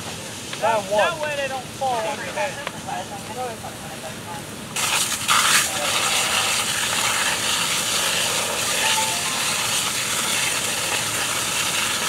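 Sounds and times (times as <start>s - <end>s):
fire hose spraying water: 0.0s - 12.0s
fire engine pump running: 1.3s - 12.0s.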